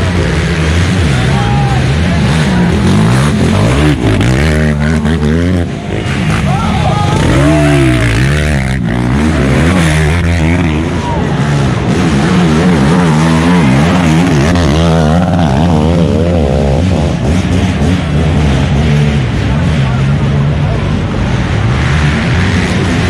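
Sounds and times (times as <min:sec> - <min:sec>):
quad engines revving: 0:00.0 - 0:23.0.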